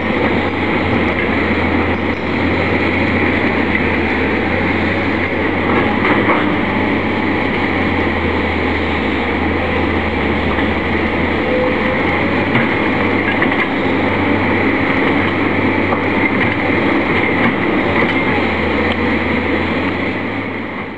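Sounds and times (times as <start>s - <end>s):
diesel locomotive idling: 0.0s - 20.9s
excavator engine running: 0.0s - 20.9s.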